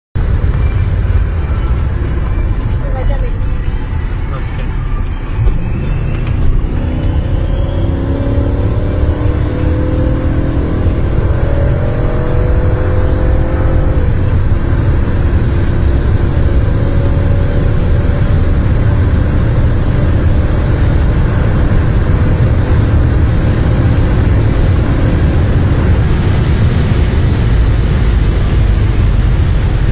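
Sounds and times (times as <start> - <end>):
car engine accelerating: 0.2 - 29.9
wind and road noise: 0.2 - 29.9.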